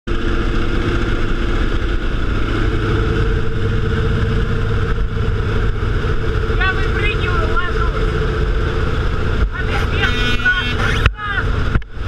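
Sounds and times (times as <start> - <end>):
engine running with low rumble: 0.1 - 12.0.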